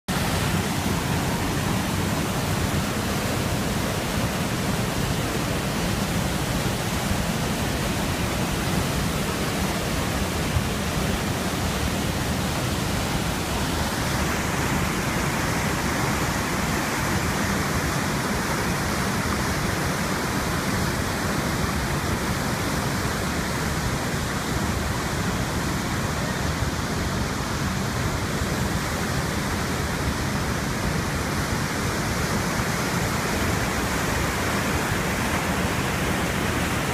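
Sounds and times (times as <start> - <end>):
waterfall rushing: 0.1 - 36.9.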